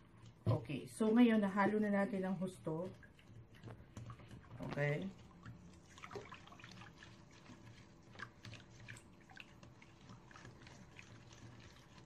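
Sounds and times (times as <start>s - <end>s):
whisk stirring liquid in bowl: 0.0s - 12.0s.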